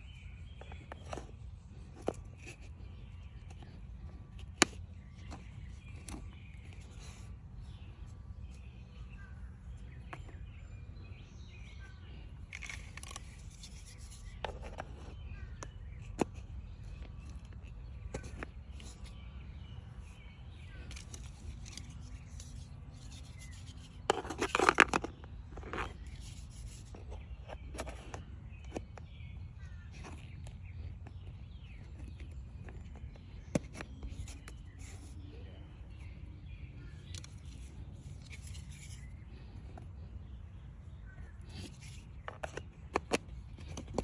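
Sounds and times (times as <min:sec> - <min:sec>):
clicks and scrapes of handling: 0:00.3 - 0:44.0.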